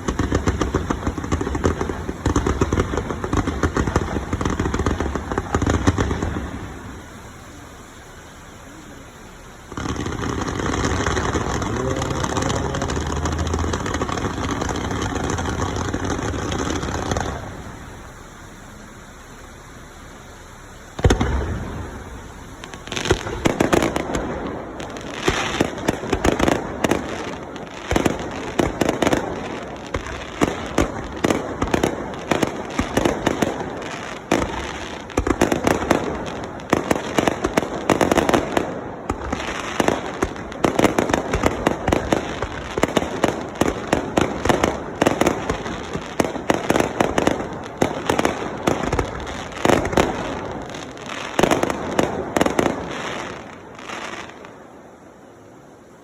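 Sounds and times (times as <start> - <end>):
deep firework boom: 0.0 - 7.6, 8.6 - 53.5
firework bangs and crackling: 0.0 - 56.0.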